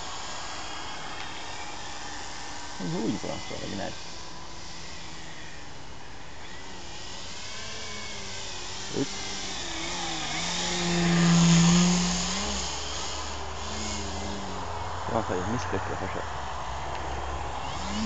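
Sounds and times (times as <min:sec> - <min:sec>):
model plane motor and propeller: 0:00.0 - 0:18.0.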